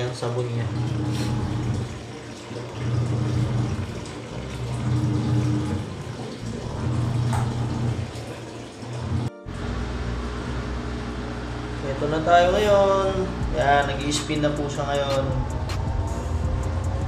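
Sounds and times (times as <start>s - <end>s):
washing machine agitating water: 0.0s - 9.5s, 10.2s - 15.5s.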